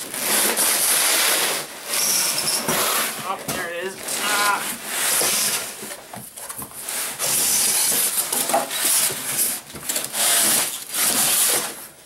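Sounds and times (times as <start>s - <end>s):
foam scraping against cardboard box: 0.0s - 3.4s, 4.0s - 5.9s, 6.8s - 11.9s.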